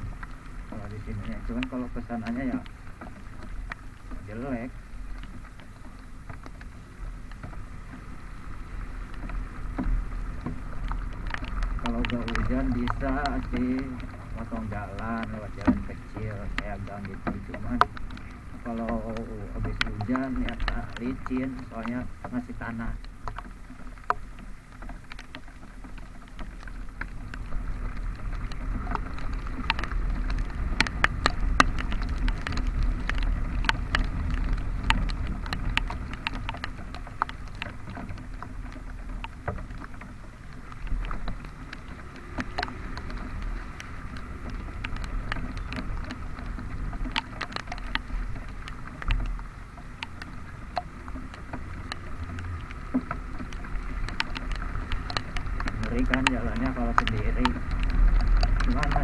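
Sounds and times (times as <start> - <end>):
raindrops ticking on camera case: 0.0 - 59.0
scooter riding rumble: 0.0 - 59.0.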